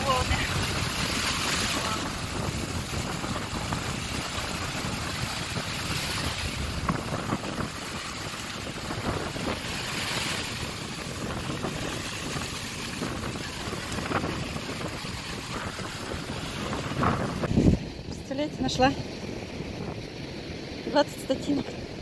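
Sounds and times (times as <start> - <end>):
waves breaking on a beach: 0.0 - 22.0
wind buffeting microphone: 0.0 - 22.0.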